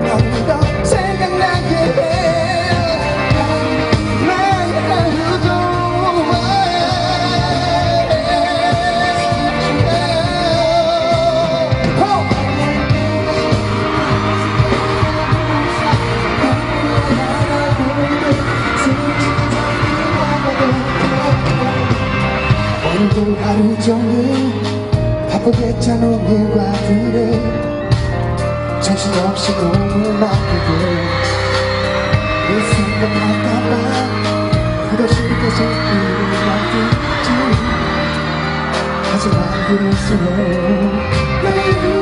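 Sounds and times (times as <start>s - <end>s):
live pop song with beat: 0.0s - 42.0s
man singing: 0.0s - 42.0s.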